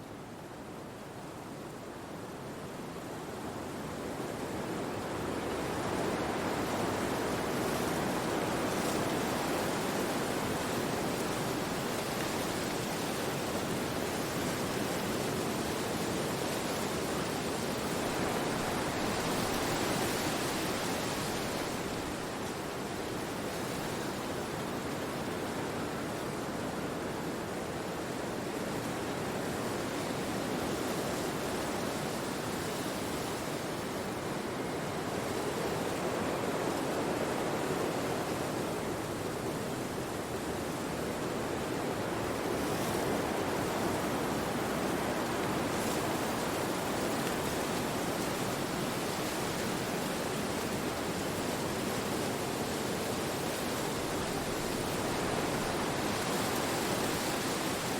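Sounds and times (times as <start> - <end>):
wind rushing through trees: 0.0 - 57.9.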